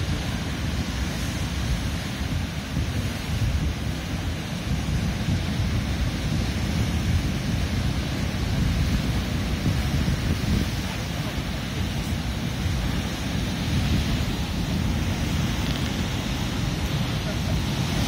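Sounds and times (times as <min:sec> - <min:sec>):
ocean surf on rocky shore: 0:00.0 - 0:18.0.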